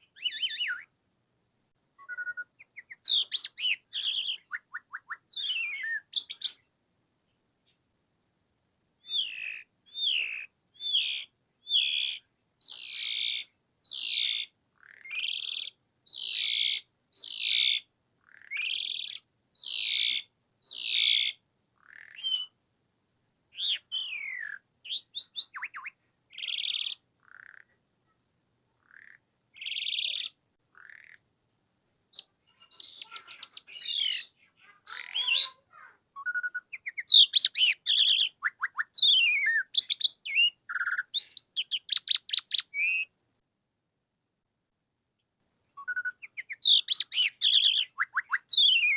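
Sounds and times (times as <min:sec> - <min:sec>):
starling singing: 0:00.0 - 0:00.9, 0:02.0 - 0:06.7, 0:09.0 - 0:22.6, 0:23.5 - 0:28.2, 0:28.8 - 0:31.2, 0:32.1 - 0:43.1, 0:45.8 - 0:48.9.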